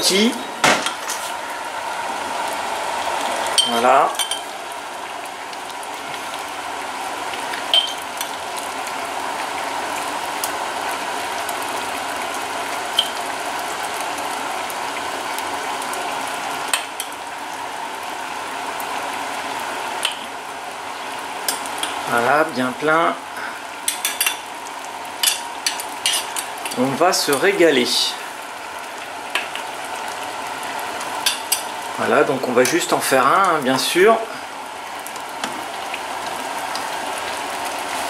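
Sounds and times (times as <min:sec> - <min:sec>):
syrup simmering and bubbling: 0:01.0 - 0:38.0.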